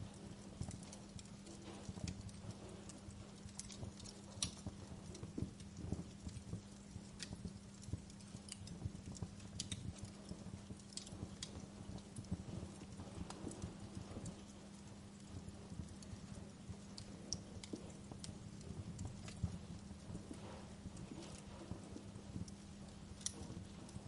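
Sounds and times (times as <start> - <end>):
faint steady hum: 0.0 - 24.0
wood fire crackling: 0.0 - 24.0.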